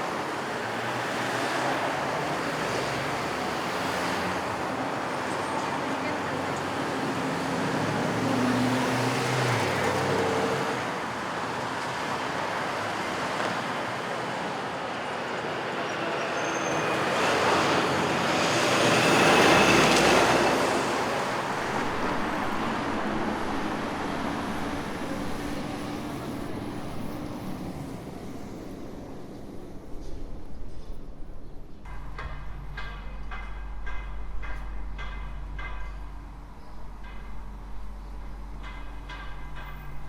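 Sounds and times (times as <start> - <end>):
passing vehicles: 0.0 - 40.0.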